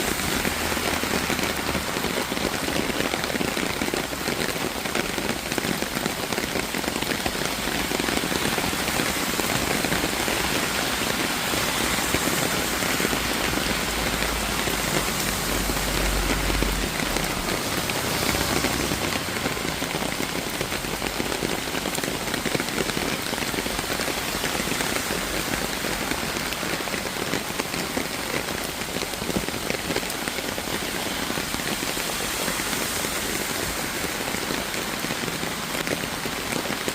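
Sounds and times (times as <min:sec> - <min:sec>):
rain pattering on surfaces: 0:00.0 - 0:36.9.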